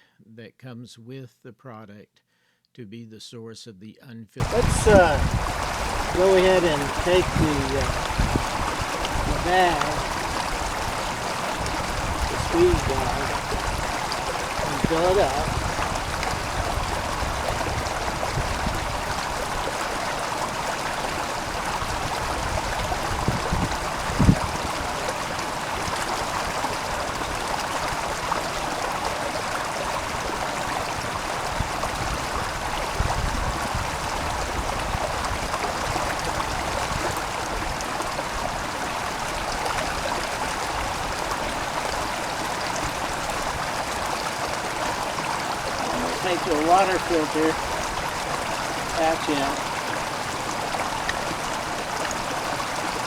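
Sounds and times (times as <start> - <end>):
water flowing: 4.4 - 53.0.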